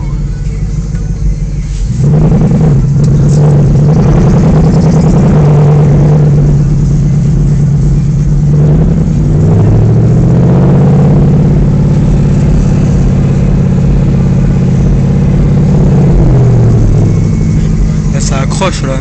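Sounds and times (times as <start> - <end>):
car engine pulling hard: 0.0 - 19.0.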